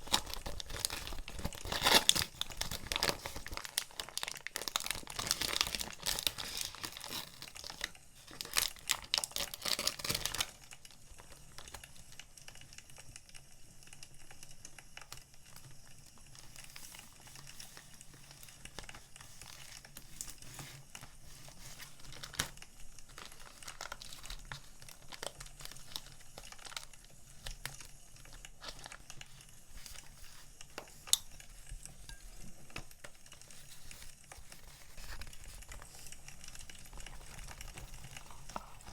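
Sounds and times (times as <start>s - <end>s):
packaging crinkling: 0.0s - 13.0s, 14.2s - 38.9s.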